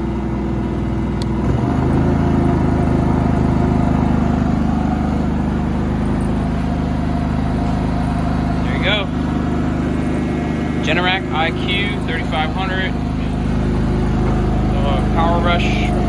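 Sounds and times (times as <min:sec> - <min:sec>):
blower fan: 0:00.0 - 0:16.0
generator engine running: 0:00.0 - 0:16.0.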